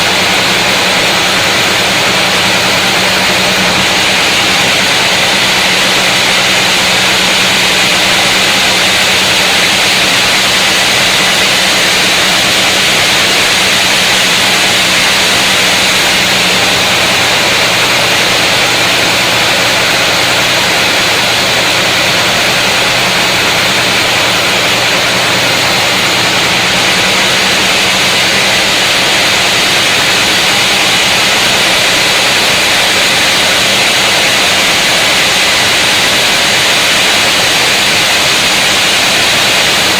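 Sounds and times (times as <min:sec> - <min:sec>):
power saw cutting log: 0:00.0 - 0:39.9.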